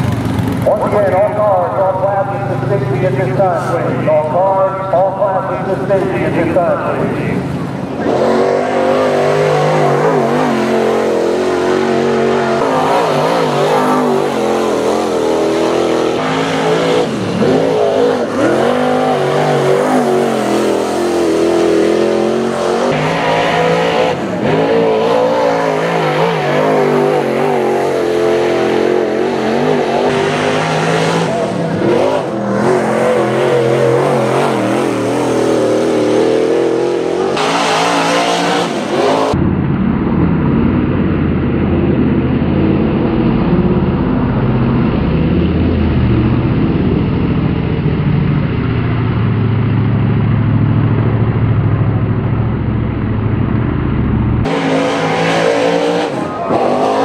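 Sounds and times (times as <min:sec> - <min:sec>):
race car engines running hard: 0:00.0 - 0:57.0.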